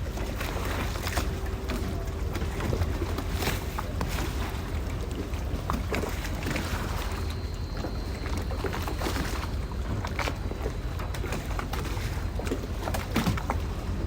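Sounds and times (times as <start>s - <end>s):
short water slaps and knocks: 0.0s - 14.0s
water lapping against boat hulls: 0.0s - 14.0s.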